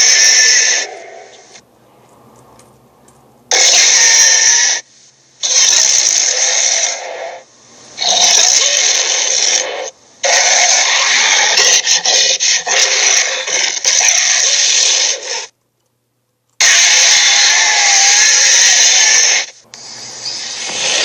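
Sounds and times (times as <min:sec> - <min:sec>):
harsh rasping noise: 0:00.0 - 0:01.6, 0:03.5 - 0:15.5, 0:16.6 - 0:21.0.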